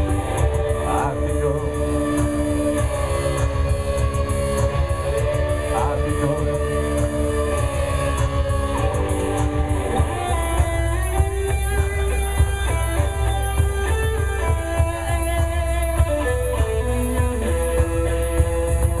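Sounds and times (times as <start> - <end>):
electric guitar: 0.0 - 19.0
heavy bass: 0.0 - 19.0
regular electronic beat: 0.0 - 19.0
synthesizer held notes: 0.0 - 19.0.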